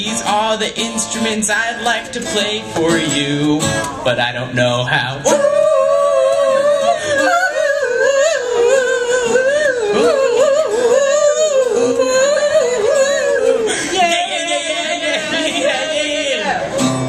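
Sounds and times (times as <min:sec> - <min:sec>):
person singing wordless melody: 0:00.0 - 0:17.0
strummed acoustic guitar: 0:00.0 - 0:17.0.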